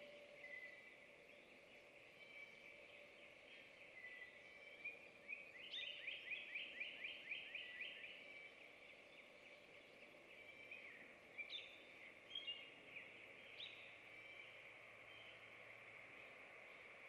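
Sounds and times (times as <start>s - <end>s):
faint steady hiss: 0.0s - 17.0s
songbird chirps: 0.0s - 17.0s.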